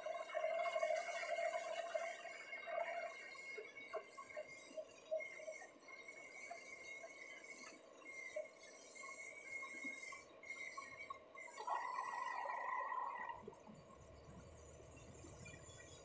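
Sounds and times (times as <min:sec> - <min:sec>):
faint high cutting whine: 0:00.0 - 0:16.0.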